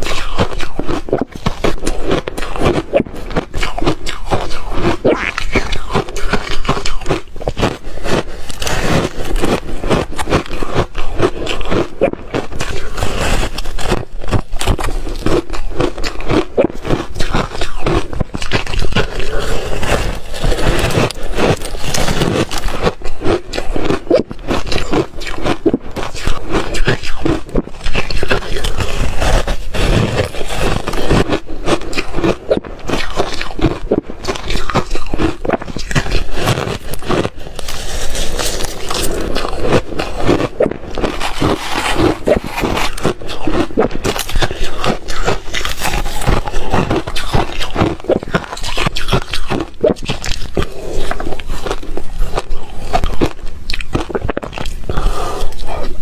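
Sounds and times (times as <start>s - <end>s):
crunching and chewing ice: 0.0s - 56.0s.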